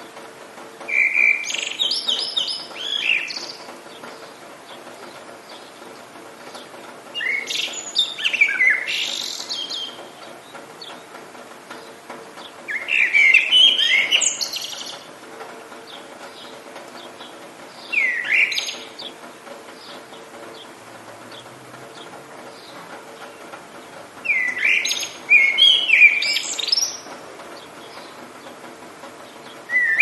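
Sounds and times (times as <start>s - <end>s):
songbird chirps and trills: 0.0s - 30.0s
steady background hiss: 0.0s - 30.0s.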